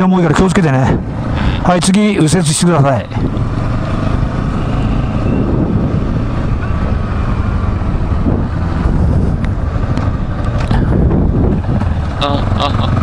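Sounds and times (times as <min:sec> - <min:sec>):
motorcycle engine rumble: 0:00.0 - 0:13.0
wind and road rush: 0:00.0 - 0:13.0.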